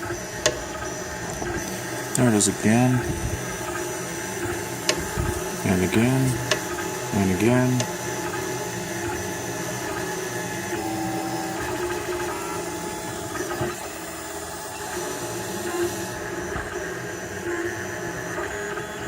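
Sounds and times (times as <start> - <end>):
stepper motors whining: 0.0 - 19.0.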